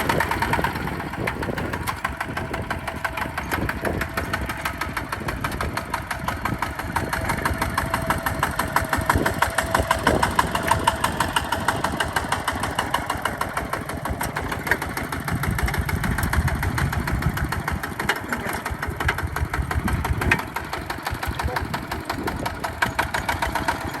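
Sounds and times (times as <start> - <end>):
tractor diesel engine puttering: 0.0 - 24.0.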